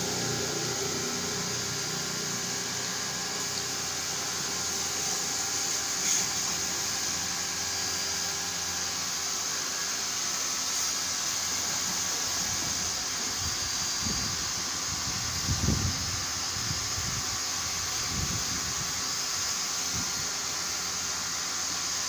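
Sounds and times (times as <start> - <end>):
mechanical hiss: 0.0 - 22.0.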